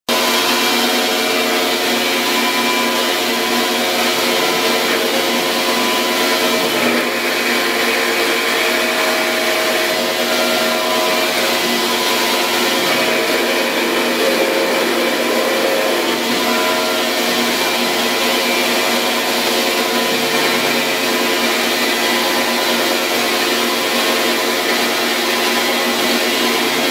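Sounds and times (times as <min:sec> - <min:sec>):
lathe motor whine: 0:00.1 - 0:26.9.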